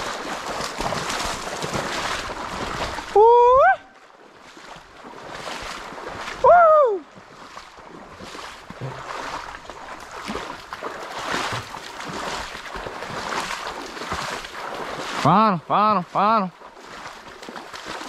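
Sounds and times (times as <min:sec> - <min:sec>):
wading through water sloshing: 0:00.0 - 0:18.0.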